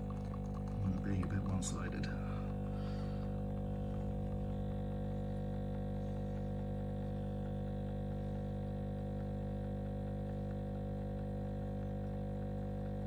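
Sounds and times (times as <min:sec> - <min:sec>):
espresso machine pump humming: 0:00.0 - 0:13.0.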